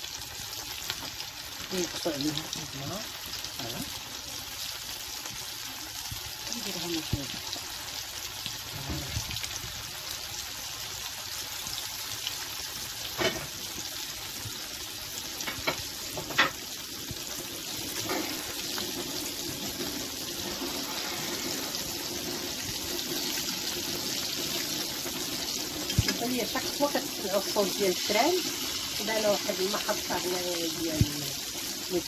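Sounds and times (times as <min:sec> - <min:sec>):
fish sizzling in frying oil: 0:00.0 - 0:32.0.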